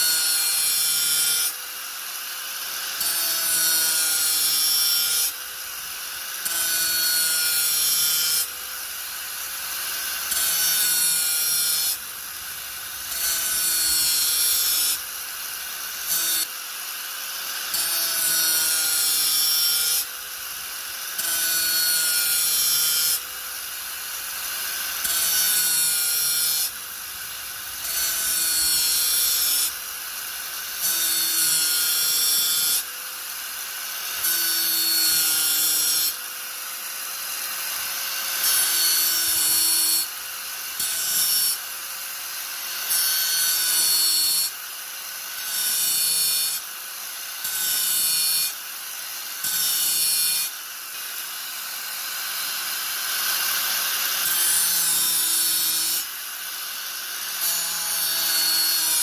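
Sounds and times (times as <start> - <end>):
angle grinder cutting: 0.0 - 59.0.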